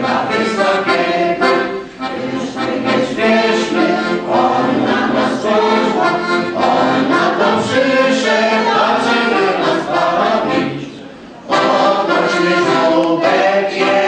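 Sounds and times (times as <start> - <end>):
folk vocal group singing: 0.0 - 14.0
piano accordion: 0.0 - 14.0.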